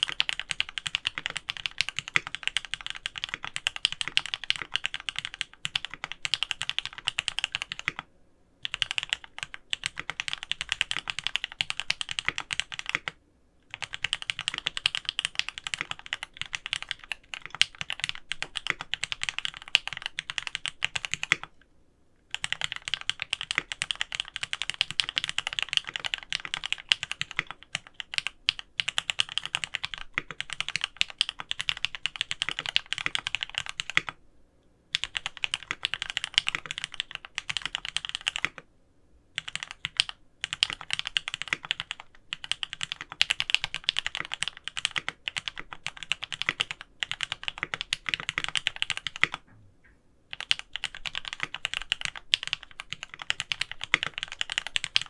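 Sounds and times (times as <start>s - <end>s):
mechanical keyboard typing: 0.0s - 8.0s, 8.6s - 21.5s, 22.3s - 34.2s, 34.9s - 38.6s, 39.4s - 49.5s, 50.3s - 55.0s.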